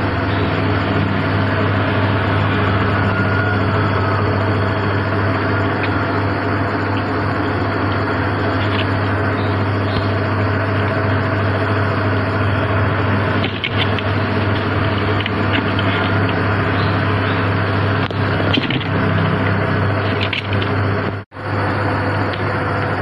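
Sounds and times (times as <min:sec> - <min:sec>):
machine hum with hiss: 0:00.0 - 0:23.0.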